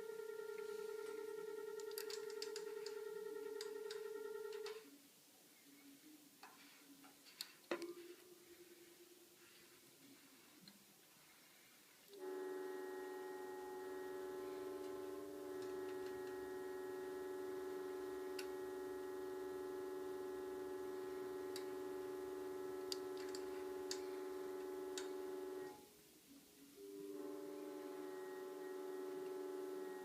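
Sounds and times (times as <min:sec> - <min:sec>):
heating system hum: 0:00.0 - 0:30.0.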